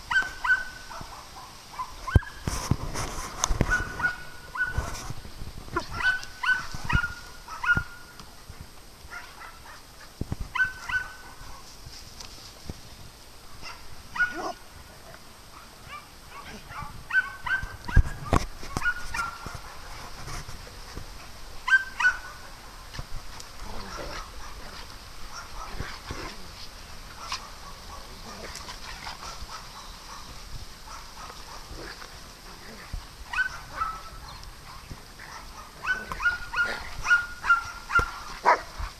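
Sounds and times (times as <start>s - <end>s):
dogs barking and yipping: 0.0s - 2.6s, 3.2s - 8.2s, 9.1s - 11.8s, 13.5s - 38.9s.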